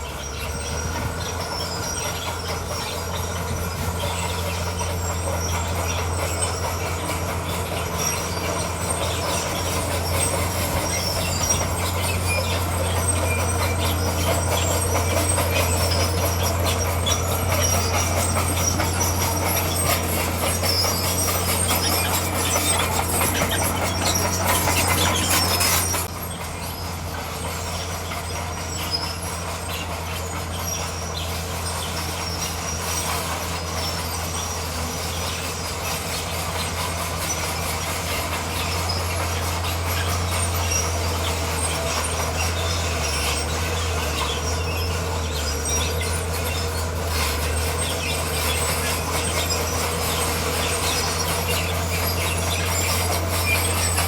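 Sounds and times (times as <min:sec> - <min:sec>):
diesel engine running: 0:00.0 - 0:54.0
steel tracks clattering: 0:00.2 - 0:54.0.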